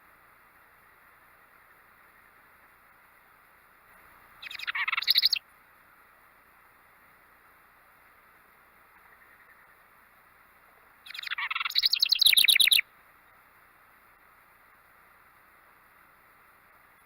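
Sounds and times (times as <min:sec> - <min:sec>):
faint background hiss: 0:00.0 - 0:17.0
songbird singing: 0:00.0 - 0:17.0.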